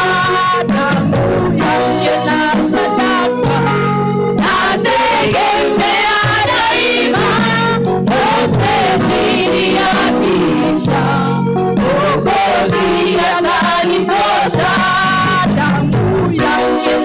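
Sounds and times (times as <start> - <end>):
band with a steady beat: 0.0 - 17.0
group of voices singing: 0.0 - 17.0.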